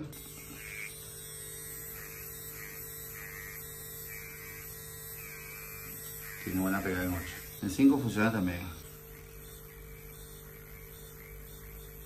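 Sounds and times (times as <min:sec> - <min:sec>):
tattoo pen electric hum: 0:00.0 - 0:12.0.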